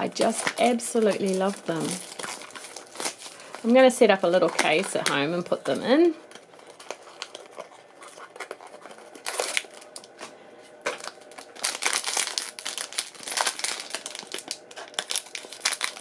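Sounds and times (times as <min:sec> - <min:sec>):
foil wrapper crackling: 0:00.0 - 0:16.0.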